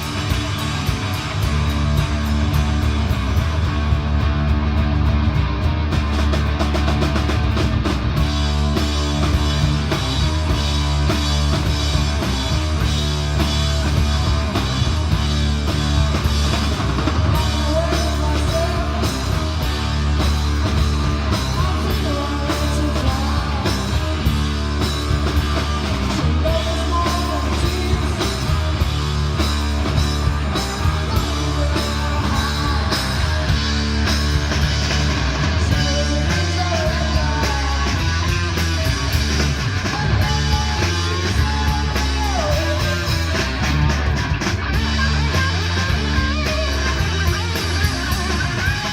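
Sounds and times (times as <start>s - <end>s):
rock music: 0.0s - 48.9s.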